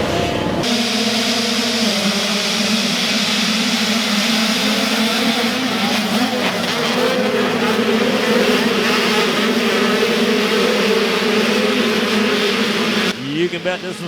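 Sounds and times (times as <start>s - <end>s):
dirt bike engines buzzing: 0.0s - 14.0s.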